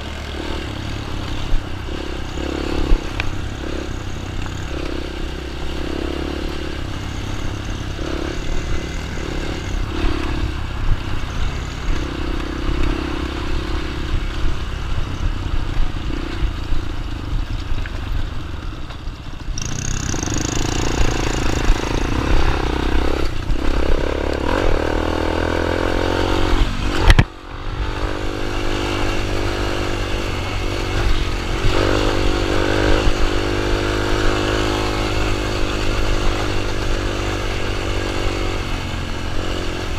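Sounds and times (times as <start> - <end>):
dirt bike engine revving: 0.0 - 17.0, 19.4 - 39.9.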